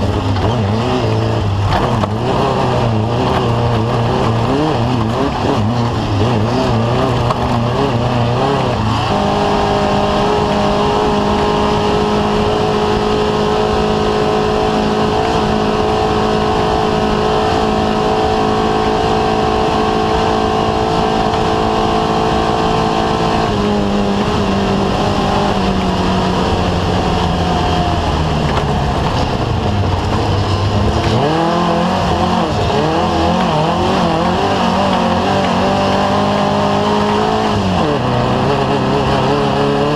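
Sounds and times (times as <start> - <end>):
race engine under hard throttle: 0.0 - 39.9.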